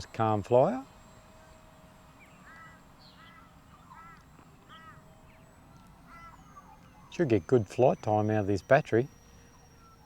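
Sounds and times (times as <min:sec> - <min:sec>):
bird calling faintly: 0:00.0 - 0:10.0.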